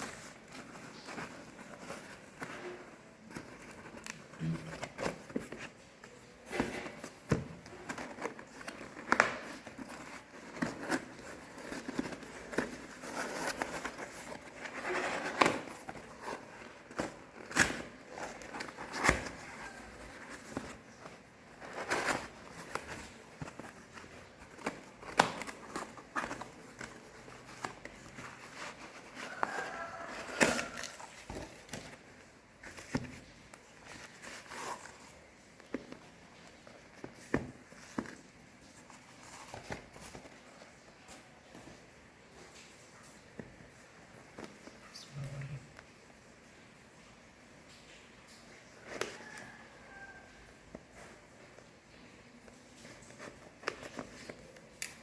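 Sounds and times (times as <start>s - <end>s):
plastic and paper crinkling: 0.0s - 55.0s.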